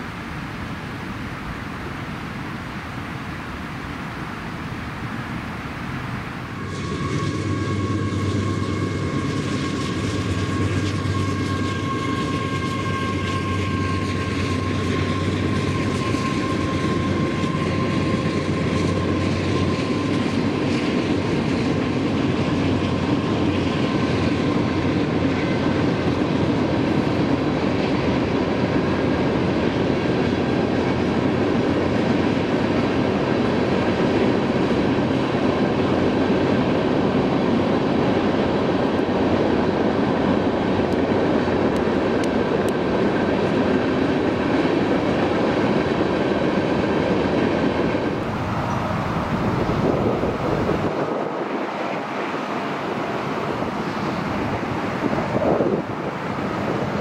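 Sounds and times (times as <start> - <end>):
diesel locomotive hum: 0.0 - 57.0
train wheels rumbling on rail: 6.0 - 57.0.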